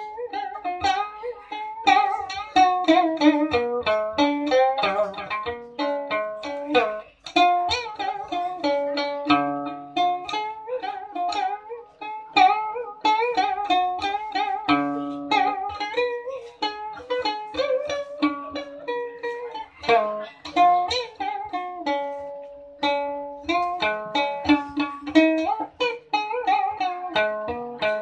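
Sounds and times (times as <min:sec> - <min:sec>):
plucked lute melody: 0:00.0 - 0:28.0.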